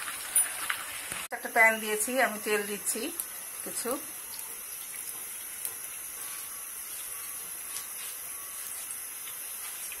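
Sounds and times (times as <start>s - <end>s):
oil hissing in frying pan: 0.0s - 10.0s.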